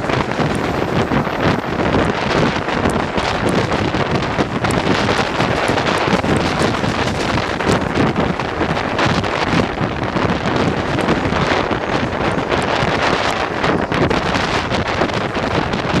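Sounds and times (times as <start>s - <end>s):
train running noise: 0.0s - 16.0s
wind buffeting microphone: 0.0s - 16.0s.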